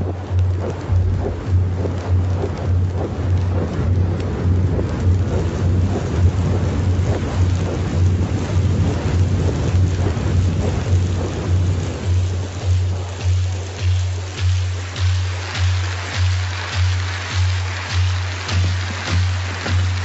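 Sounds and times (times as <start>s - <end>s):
fire crackling: 0.0s - 20.0s
low bass pulse: 0.0s - 20.0s.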